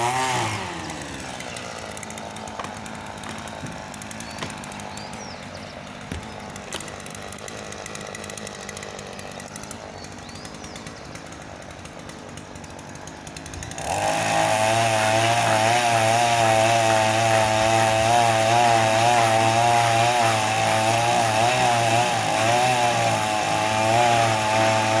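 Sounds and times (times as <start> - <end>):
chainsaw running and revving: 0.0 - 25.0.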